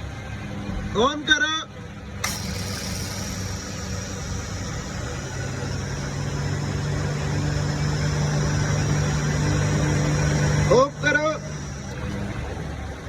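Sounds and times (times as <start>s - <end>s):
air conditioning compressor drone: 1.8s - 13.0s
car engine idling: 2.2s - 13.0s.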